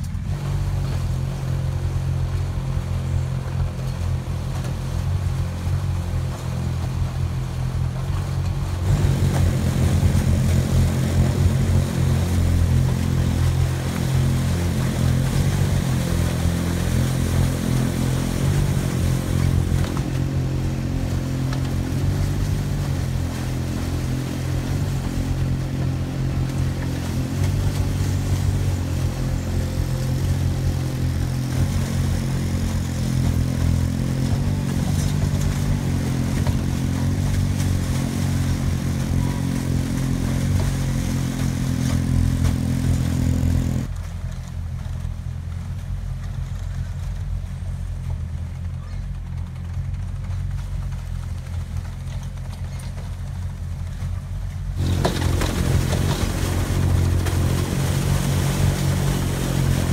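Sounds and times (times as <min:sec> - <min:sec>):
boat engines running: 0:00.0 - 0:59.9
paddle wheels churning water: 0:00.0 - 0:59.9.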